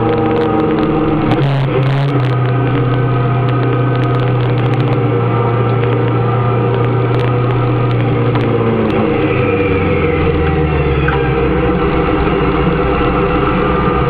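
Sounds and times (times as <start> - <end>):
motorcycle engine droning: 0.0 - 14.0
wind and road noise: 0.0 - 14.0.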